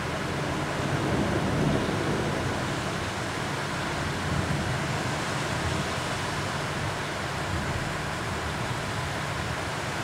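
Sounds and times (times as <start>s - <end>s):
heavy rain rushing: 0.0s - 10.0s.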